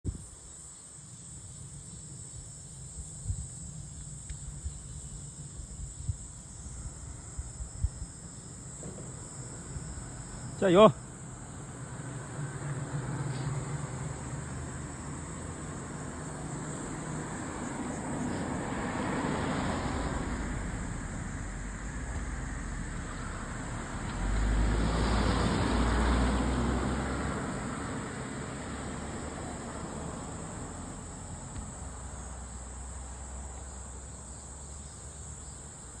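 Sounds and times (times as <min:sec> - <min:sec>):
high insect chirr: 0:00.1 - 0:36.0
vehicles passing by: 0:06.4 - 0:35.8.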